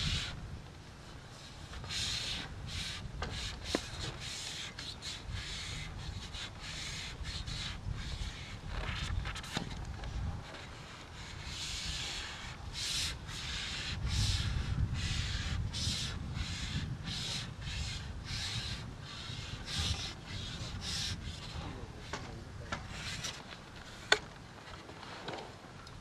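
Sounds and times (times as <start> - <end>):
rustling hiss: 0.0 - 26.0
wind rumbling on microphone: 0.0 - 26.0.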